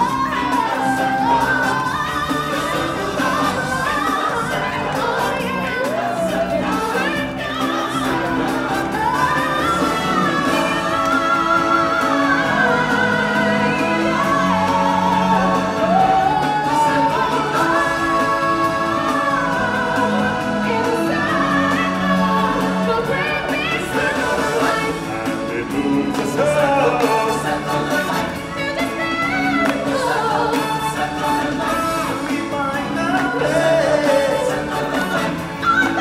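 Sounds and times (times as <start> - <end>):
stage show musical backing: 0.0 - 36.0.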